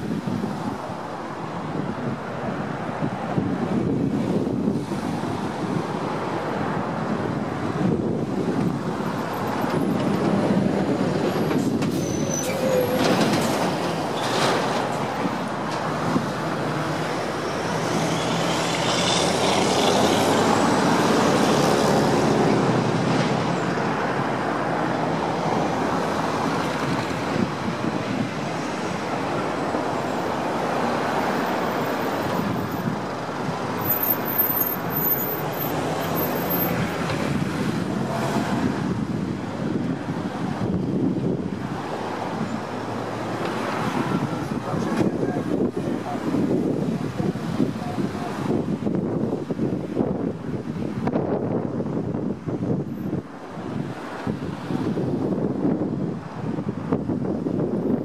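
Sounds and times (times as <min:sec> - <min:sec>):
cars driving past: 0:02.5 - 0:58.0.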